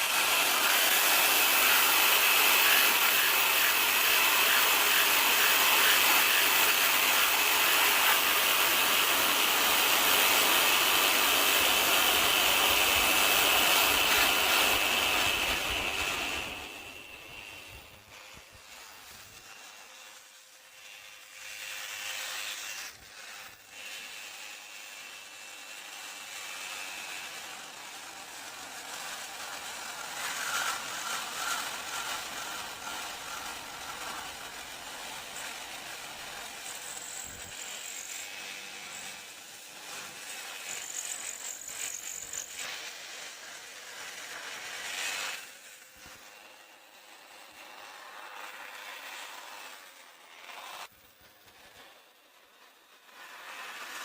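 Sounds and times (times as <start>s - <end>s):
reciprocating saw cutting wood: 0.0s - 54.0s.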